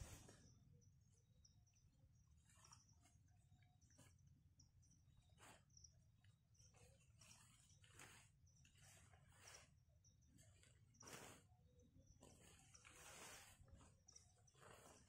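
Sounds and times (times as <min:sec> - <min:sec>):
soft rustles: 0:00.0 - 0:00.7, 0:02.2 - 0:15.0
faint high chirps: 0:00.0 - 0:15.0.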